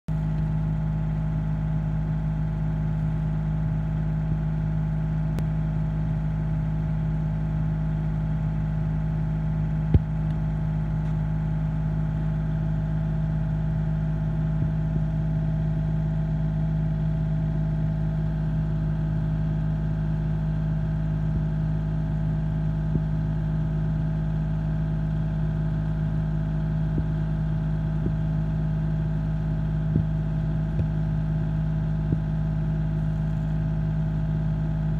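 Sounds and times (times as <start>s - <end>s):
engine idling: 0.1s - 34.9s.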